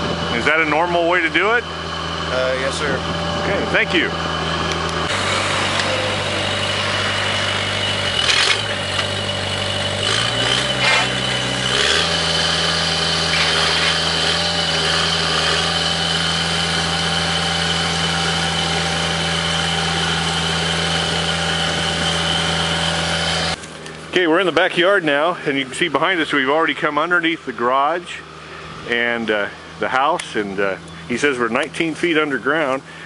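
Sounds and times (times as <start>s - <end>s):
drilling rig engine running: 0.0s - 33.0s.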